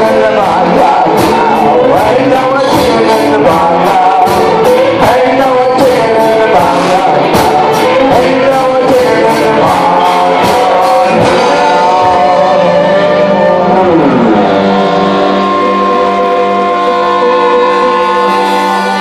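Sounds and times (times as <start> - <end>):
acoustic guitar: 0.0 - 19.0
drum kit with cymbal strokes: 0.0 - 19.0
keyboard: 0.0 - 19.0
person singing: 0.0 - 19.0.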